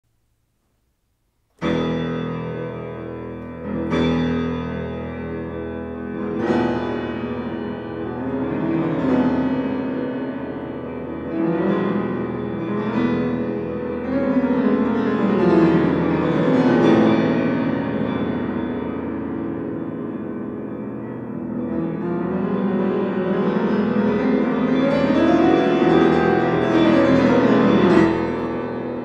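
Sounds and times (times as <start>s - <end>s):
ominous solo piano: 1.6s - 29.0s.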